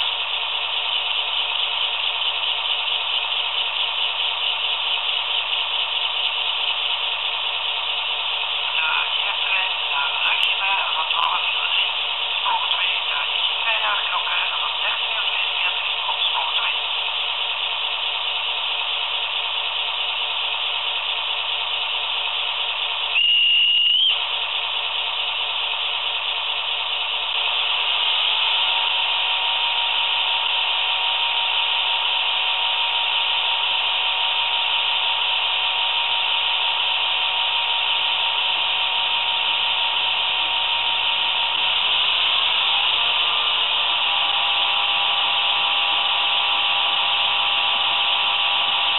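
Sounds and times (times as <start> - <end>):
model diesel engine sound: 0.0 - 48.9.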